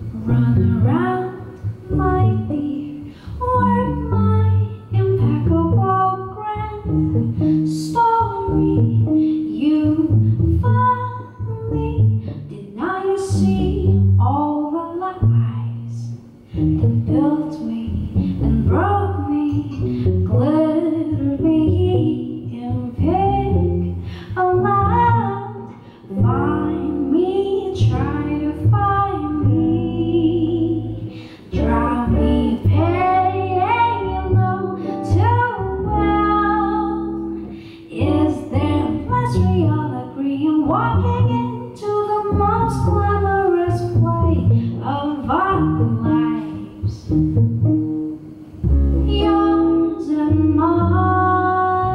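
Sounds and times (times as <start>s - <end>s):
woman singing jazz: 0.0s - 47.2s, 49.0s - 51.9s
upright double bass: 0.0s - 51.9s.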